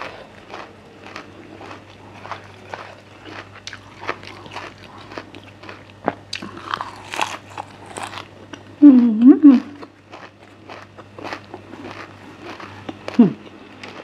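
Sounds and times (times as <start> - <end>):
crisp crunching and chewing: 0.0 - 8.8, 9.7 - 14.0.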